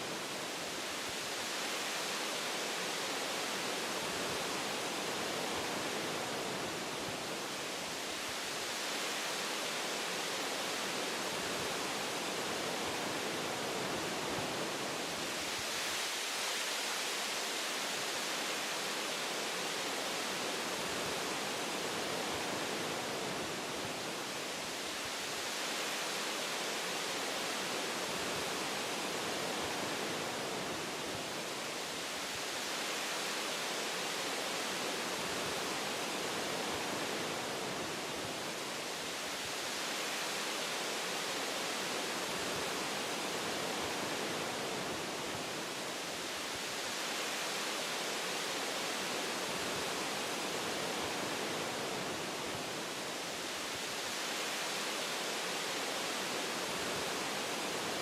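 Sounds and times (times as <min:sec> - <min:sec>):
wind through forest trees: 0:00.0 - 0:58.0.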